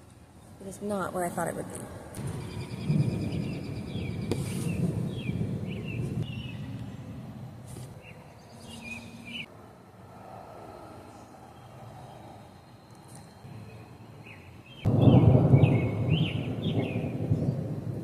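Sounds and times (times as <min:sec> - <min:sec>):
birds chirping: 0:00.3 - 0:09.5, 0:11.0 - 0:17.7.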